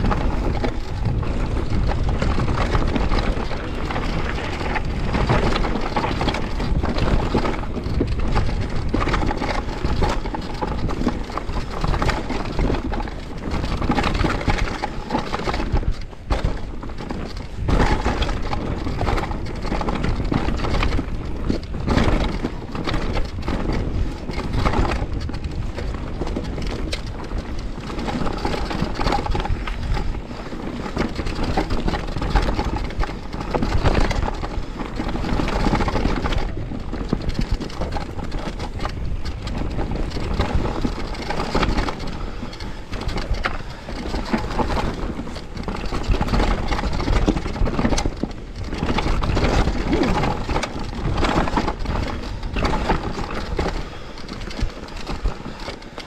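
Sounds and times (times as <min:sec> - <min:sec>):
bike knocks and crunching impacts: 0:00.0 - 0:56.0
tyre and trail noise: 0:00.0 - 0:56.0.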